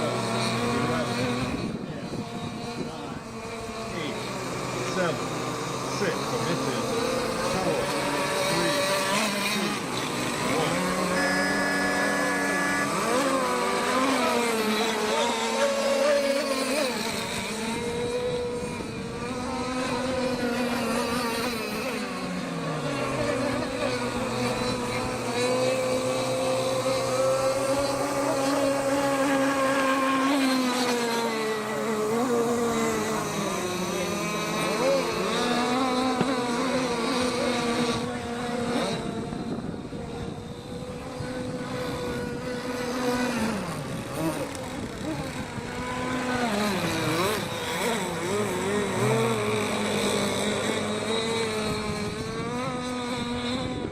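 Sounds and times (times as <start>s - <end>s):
racing boat engines: 0.0s - 53.9s.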